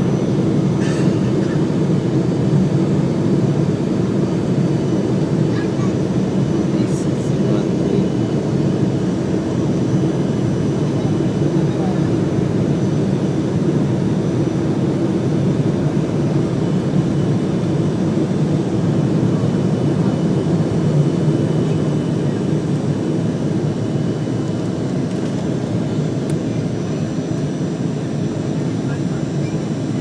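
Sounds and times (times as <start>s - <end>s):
airliner engines in cabin: 0.0s - 30.0s.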